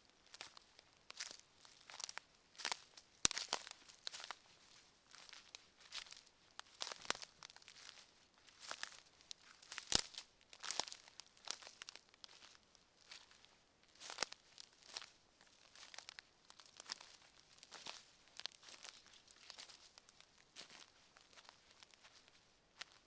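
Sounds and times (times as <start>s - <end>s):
footsteps on forest floor: 0.3s - 13.4s, 14.0s - 23.0s.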